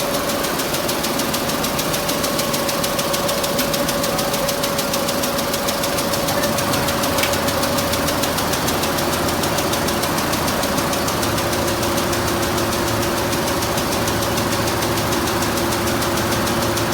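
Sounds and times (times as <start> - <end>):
motor hum: 1.4 - 15.9.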